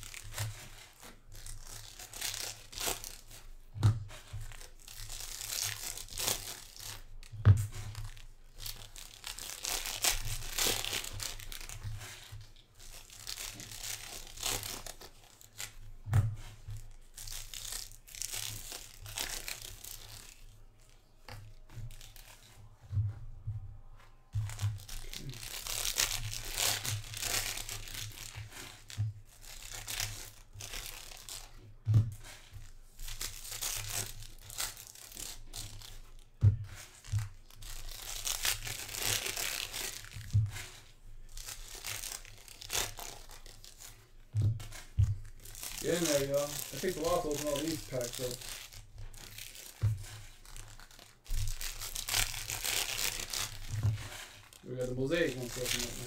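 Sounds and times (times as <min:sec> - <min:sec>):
foil wrappers tearing and crinkling: 0:00.0 - 0:22.7, 0:24.3 - 0:56.0
cards rustling: 0:00.0 - 0:23.2, 0:24.0 - 0:56.0.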